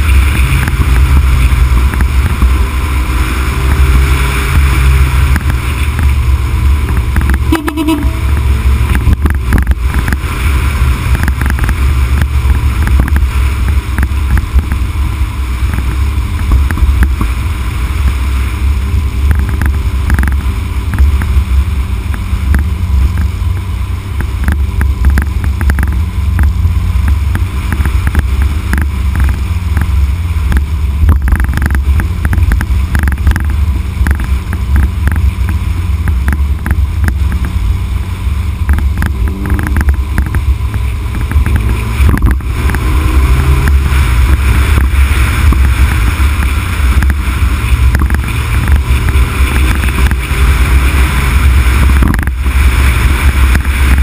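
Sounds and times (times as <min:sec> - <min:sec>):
tyre noise on concrete road: 0:00.0 - 0:54.0
wind rumble on microphone: 0:00.0 - 0:54.0.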